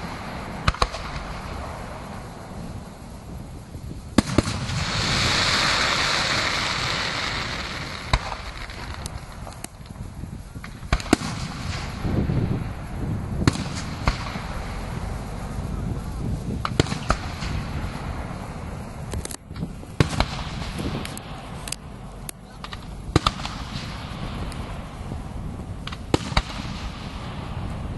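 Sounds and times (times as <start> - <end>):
firework hiss: 0.0 - 27.9
firework shells bursting: 0.0 - 27.9.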